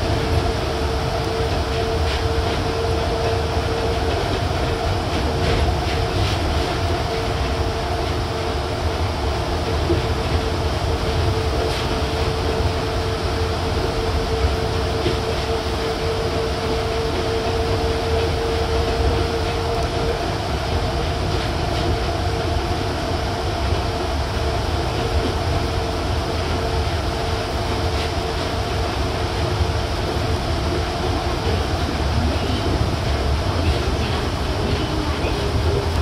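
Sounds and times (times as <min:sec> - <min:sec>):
train drive whine: 0:00.0 - 0:36.0
train rumbling: 0:00.0 - 0:36.0.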